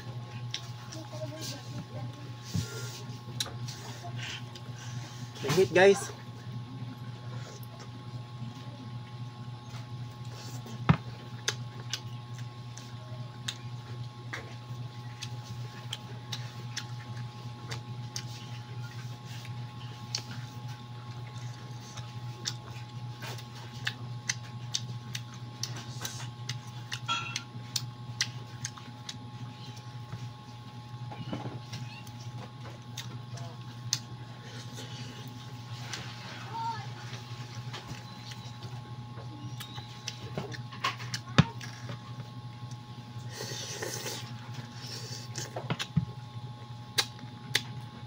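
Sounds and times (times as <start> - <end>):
chewing and lip-smacking: 0.0 - 1.5, 3.1 - 4.9, 6.9 - 36.2, 37.2 - 48.0.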